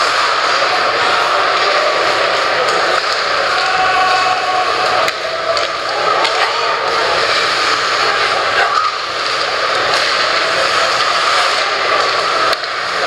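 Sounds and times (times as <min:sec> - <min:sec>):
crowd murmur: 0:00.0 - 0:13.0
skates on ice: 0:00.0 - 0:13.0.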